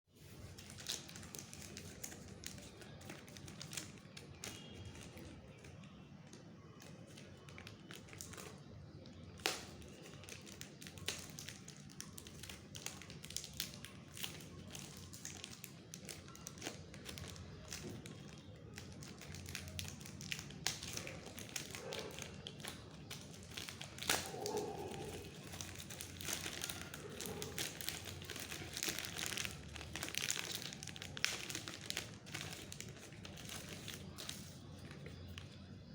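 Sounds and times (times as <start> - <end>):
paper and packaging crinkling: 0.2 - 35.9.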